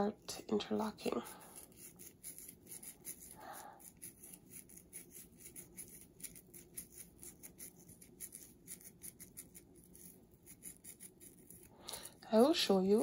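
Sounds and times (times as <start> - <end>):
crochet needle rasping through hair: 0.8 - 13.0.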